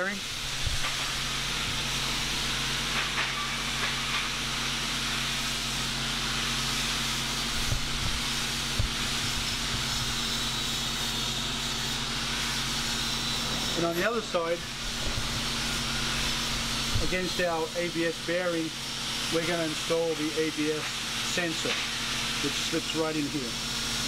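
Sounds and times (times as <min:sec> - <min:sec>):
workshop fan hiss and hum: 0:00.0 - 0:24.0.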